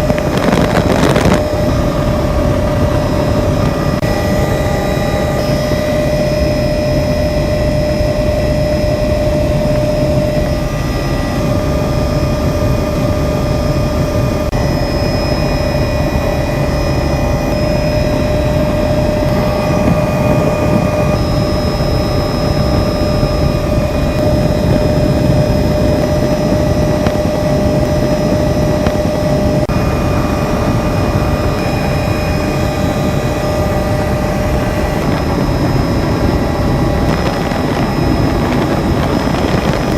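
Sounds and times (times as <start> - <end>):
helicopter engine and rotor drone: 0.0 - 39.9
steady whine: 0.0 - 39.9.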